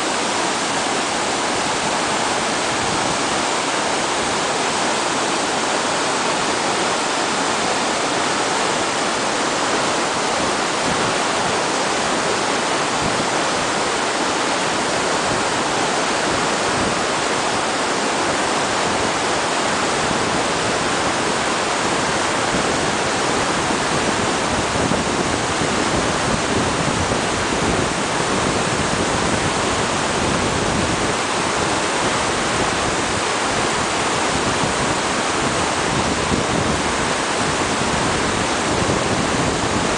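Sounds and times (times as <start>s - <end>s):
meltwater torrent rushing: 0.0s - 39.9s.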